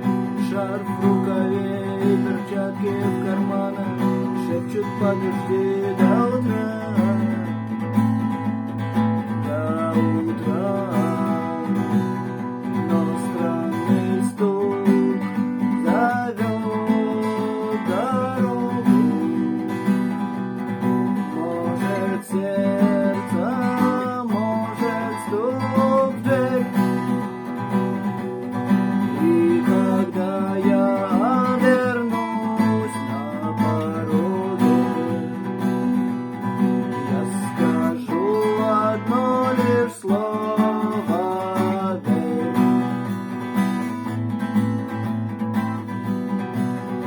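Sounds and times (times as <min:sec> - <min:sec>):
acoustic guitar strumming: 0:00.0 - 0:47.0
sliding guitar melody: 0:00.0 - 0:47.0.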